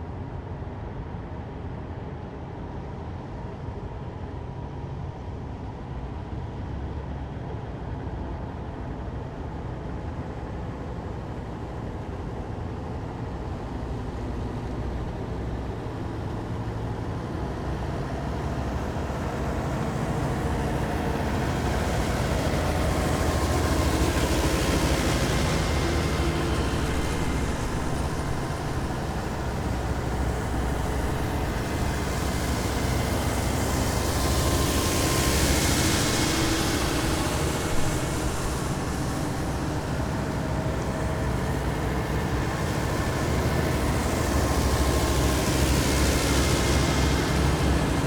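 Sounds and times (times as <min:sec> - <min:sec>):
heavy vehicle engines droning: 0:06.1 - 0:48.0.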